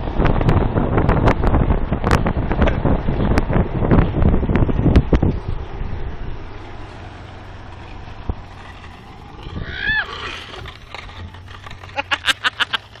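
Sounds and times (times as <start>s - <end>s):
wind on microphone: 0.0s - 12.3s.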